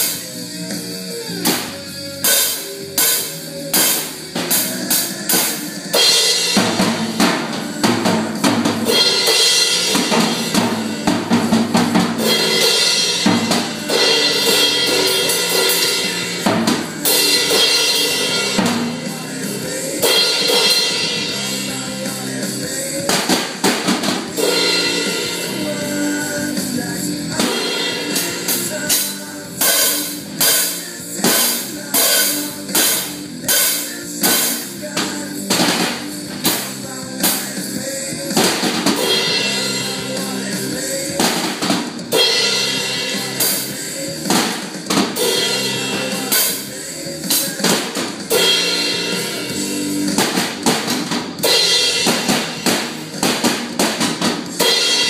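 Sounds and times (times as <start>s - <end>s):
drum kit playing: 0.0s - 55.0s
recorded rock song: 0.0s - 55.0s.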